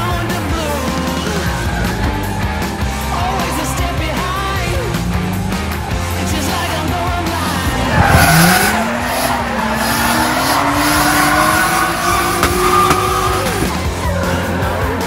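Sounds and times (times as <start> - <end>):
tyres squealing: 1.0 - 15.0
car engine revving high: 1.4 - 15.0.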